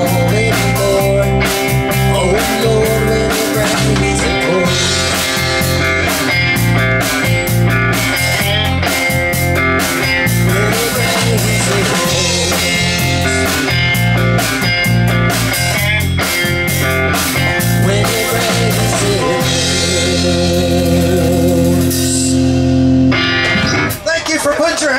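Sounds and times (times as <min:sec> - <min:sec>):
live rock band playing: 0:00.0 - 0:24.9.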